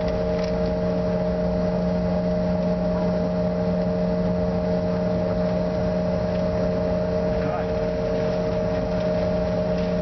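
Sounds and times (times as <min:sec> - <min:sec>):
jet engines humming: 0:00.0 - 0:10.0
low rumble: 0:00.0 - 0:10.0.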